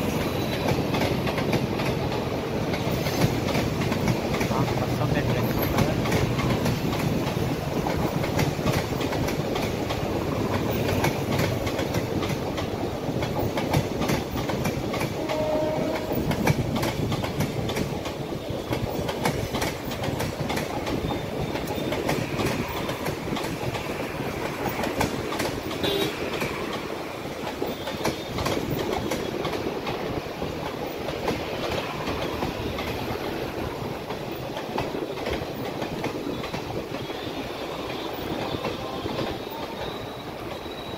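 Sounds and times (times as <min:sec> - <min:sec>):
train wheels clattering: 0:00.0 - 0:40.9.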